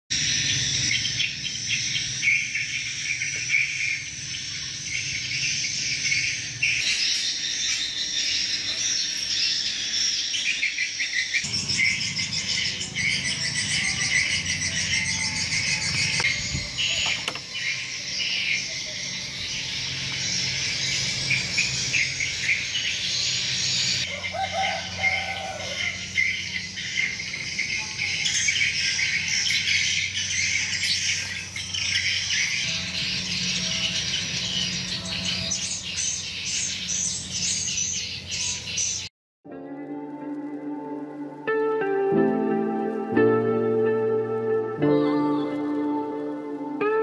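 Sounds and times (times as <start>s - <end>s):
insects chirring: 0.1s - 38.6s
bird chirps: 0.1s - 39.1s.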